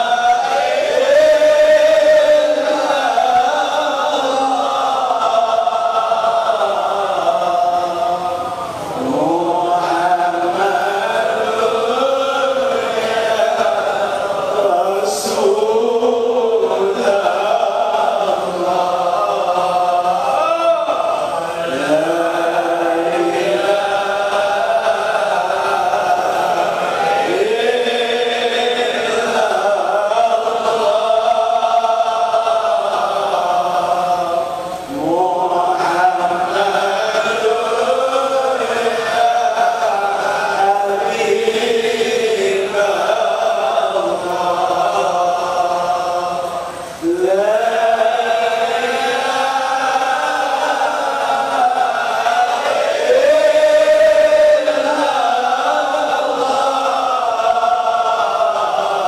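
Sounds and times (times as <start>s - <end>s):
men chanting together: 0.0s - 59.0s.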